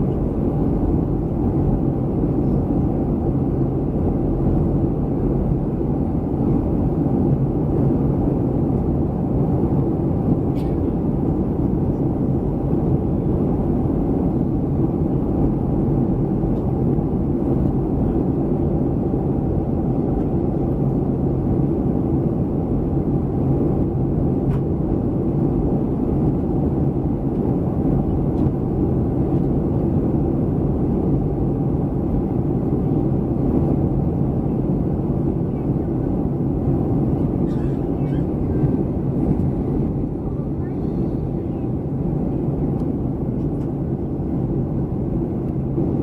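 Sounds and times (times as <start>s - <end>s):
airliner cabin jet engine rumble: 0.0s - 46.0s.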